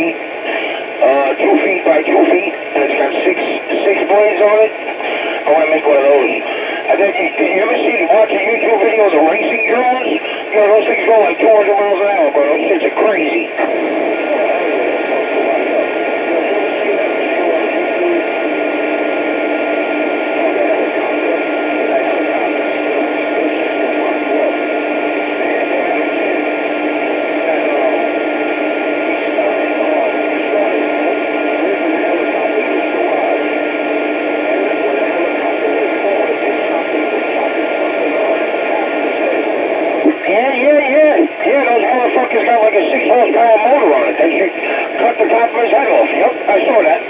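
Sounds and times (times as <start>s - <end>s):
radio receiver hissing: 0.0s - 16.2s, 24.7s - 47.0s
faint overlapping radio signals: 0.0s - 47.0s.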